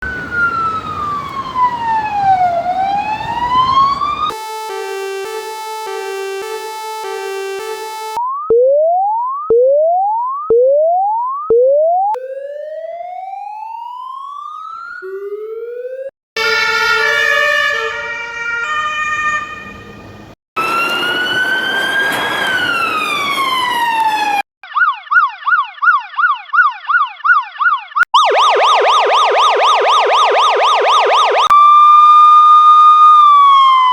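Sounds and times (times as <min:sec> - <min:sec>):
police siren wail: 0:00.0 - 0:10.3, 0:12.0 - 0:26.4, 0:27.6 - 0:33.9
fast warbling siren yelp: 0:00.0 - 0:33.9
siren whoops: 0:00.0 - 0:33.9
two-tone hi-lo siren: 0:00.0 - 0:33.9.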